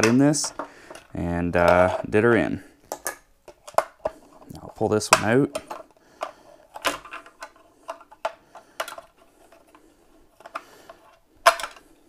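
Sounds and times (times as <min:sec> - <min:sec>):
plastic clicks and knocks: 0:00.0 - 0:09.8, 0:10.4 - 0:11.9.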